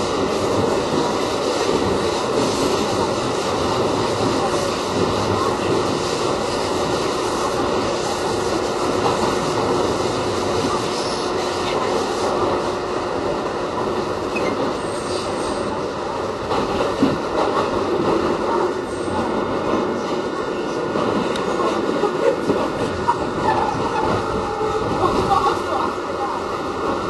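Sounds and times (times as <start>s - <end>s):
subway wheels rumbling on rail: 0.0s - 27.0s.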